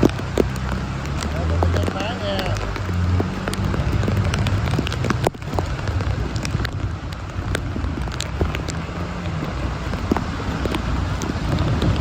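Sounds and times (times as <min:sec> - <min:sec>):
heavy rain falling: 0:00.0 - 0:12.0
motorbike engine running: 0:00.0 - 0:12.0.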